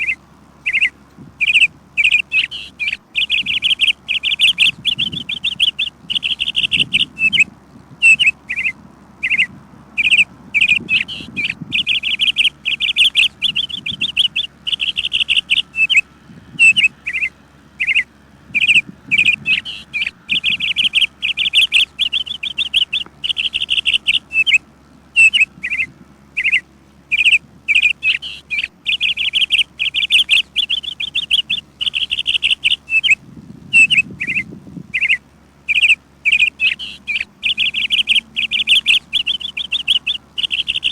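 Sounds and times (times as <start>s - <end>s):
birds chirping in rattling bursts: 0.0s - 40.9s.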